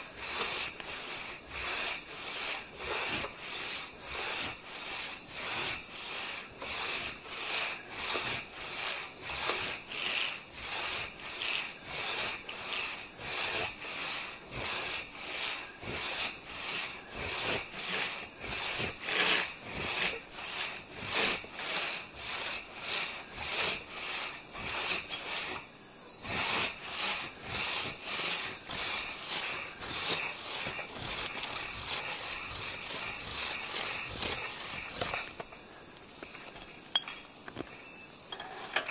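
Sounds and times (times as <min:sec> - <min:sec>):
hand saw cutting log: 0:00.0 - 0:35.6.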